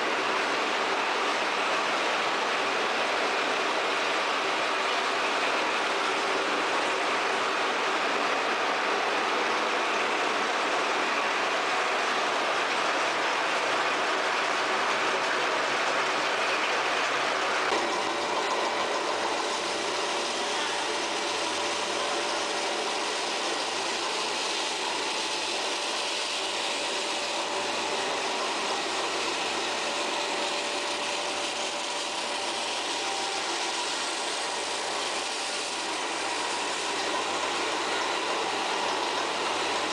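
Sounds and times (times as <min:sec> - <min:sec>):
recycling machinery running: 0:00.0 - 0:39.9
steady machine hums: 0:00.0 - 0:39.9.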